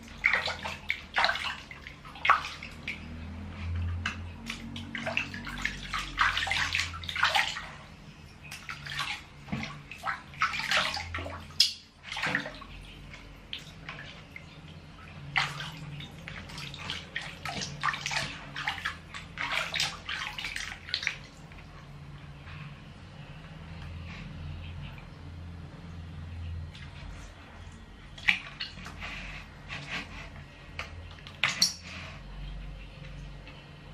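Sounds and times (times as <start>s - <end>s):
water splashing in a plastic basin: 0.0s - 22.0s, 26.6s - 31.8s.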